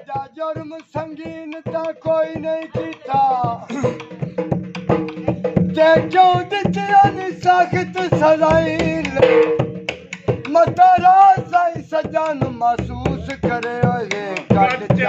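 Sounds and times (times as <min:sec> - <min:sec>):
fast steady drum beat: 0:00.0 - 0:15.0.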